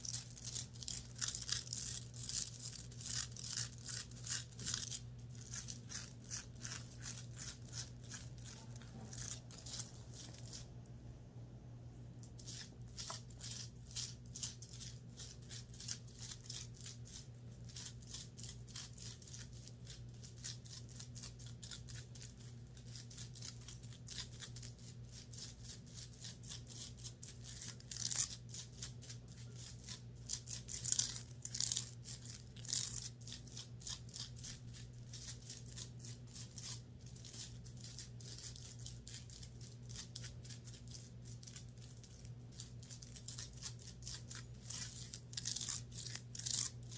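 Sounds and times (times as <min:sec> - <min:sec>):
scratching on fabric: 0:00.0 - 0:10.8, 0:12.2 - 0:46.9
steady low hum: 0:00.0 - 0:46.9.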